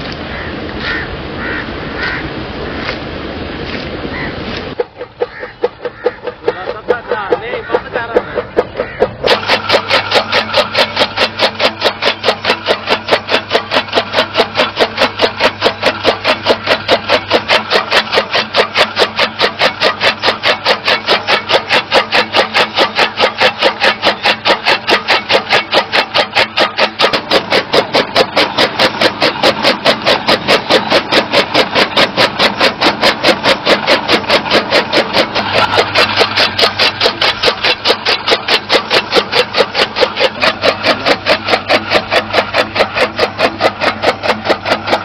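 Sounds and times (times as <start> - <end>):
chaff cutter blade clacking: 4.6 - 45.0.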